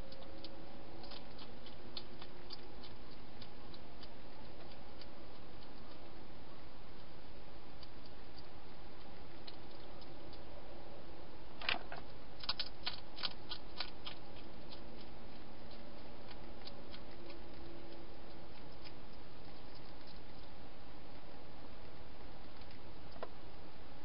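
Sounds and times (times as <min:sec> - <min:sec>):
hedgehog crunching dry food: 0:00.0 - 0:10.6, 0:11.6 - 0:23.3.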